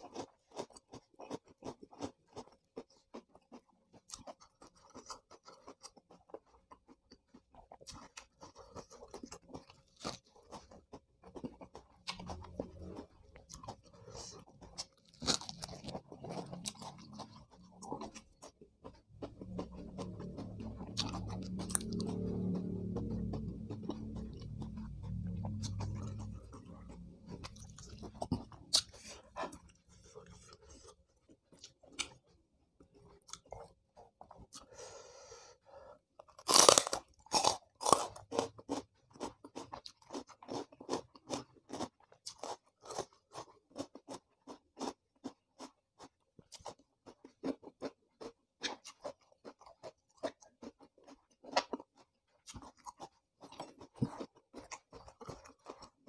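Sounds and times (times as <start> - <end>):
chewing crunchy vegetables: 0.0 - 35.4, 36.0 - 56.0.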